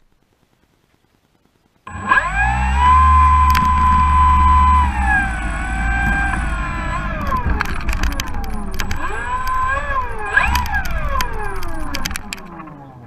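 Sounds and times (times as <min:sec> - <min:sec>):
low rumble: 0:01.9 - 0:13.0
model airplane motor revving: 0:01.9 - 0:13.0
scattered clicks: 0:01.9 - 0:13.0.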